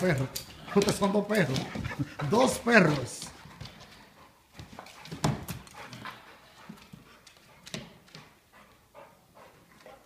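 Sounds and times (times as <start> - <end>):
dog noises: 0.0 - 10.0
paws scuffling on floor: 0.0 - 10.0.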